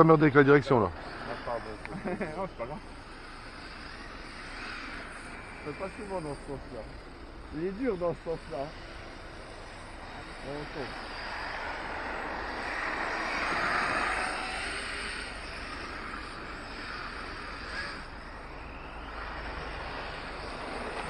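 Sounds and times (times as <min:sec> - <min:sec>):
radio-controlled trucks rushing noise: 0:00.0 - 0:21.0.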